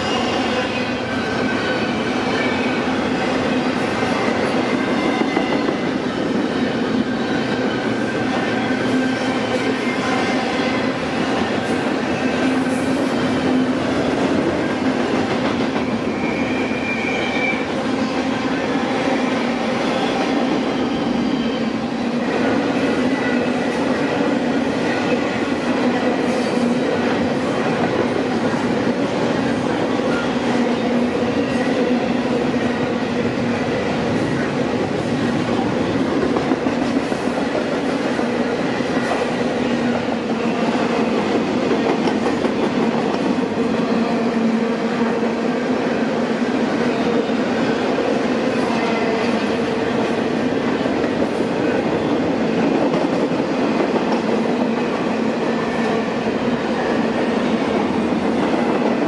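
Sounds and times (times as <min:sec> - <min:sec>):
freight train rolling past: 0:00.0 - 0:59.0
train wheels on rails: 0:00.0 - 0:59.0.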